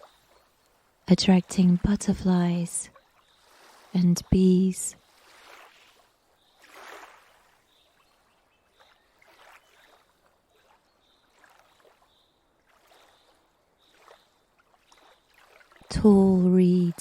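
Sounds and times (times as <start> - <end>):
water lapping at shore: 0.0 - 17.0.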